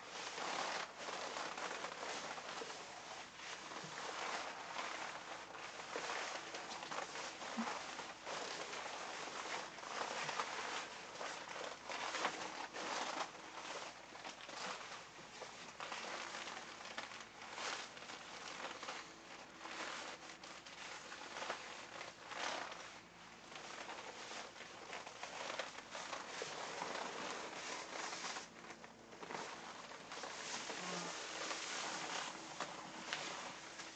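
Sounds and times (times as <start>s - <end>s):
fabric rustling and crinkling: 0.0s - 33.9s.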